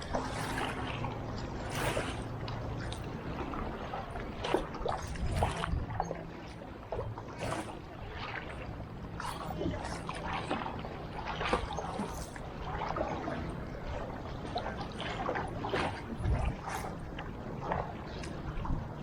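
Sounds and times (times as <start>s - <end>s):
kayak paddle splashing water: 0.0s - 18.6s
low steady rumble: 0.0s - 19.0s.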